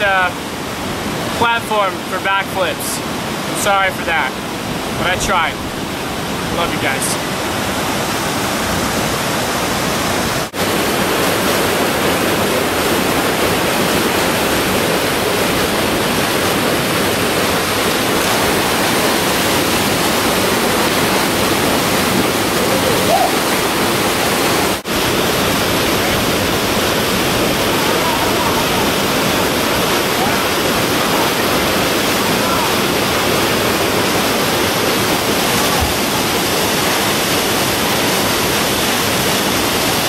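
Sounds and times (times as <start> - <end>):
river water pouring over rocks: 0.0 - 40.0.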